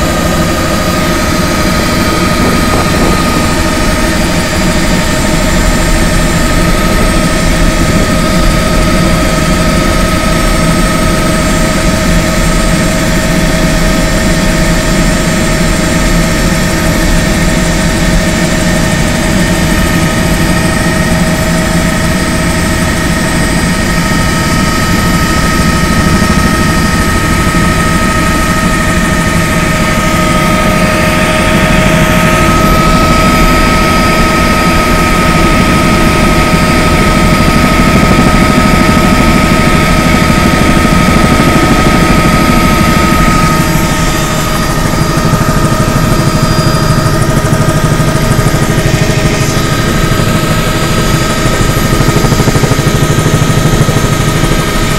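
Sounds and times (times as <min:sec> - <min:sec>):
helicopter engine and rotors drone: 0:00.0 - 0:54.9
high whine: 0:00.0 - 0:54.9.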